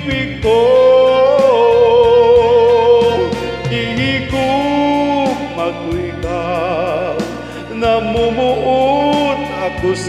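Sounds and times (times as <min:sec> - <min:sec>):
ballad backing track: 0:00.0 - 0:10.0.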